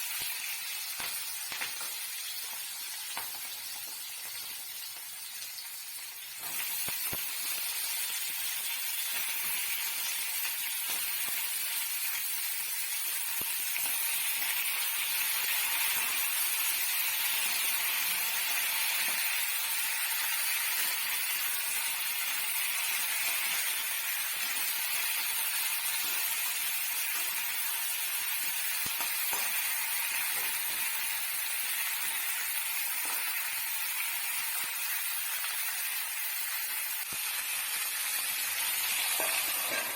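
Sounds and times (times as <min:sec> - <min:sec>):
vegetables sizzling in frying: 0:00.0 - 0:39.9.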